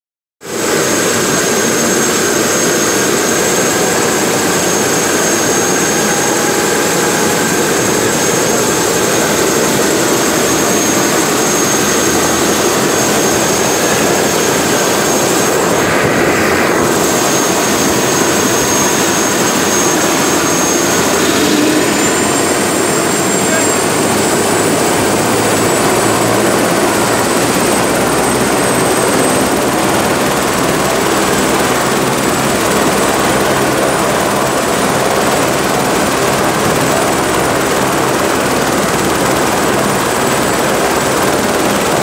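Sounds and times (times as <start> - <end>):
helicopter rotor rush: 0.4 - 42.0
helicopter turbine whine: 0.4 - 42.0.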